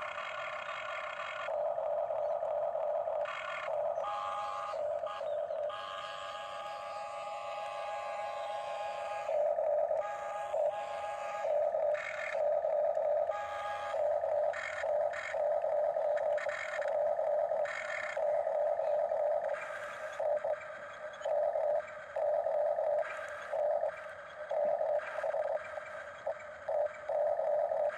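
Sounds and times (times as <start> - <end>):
toy excavator motors whining: 0.0 - 27.9.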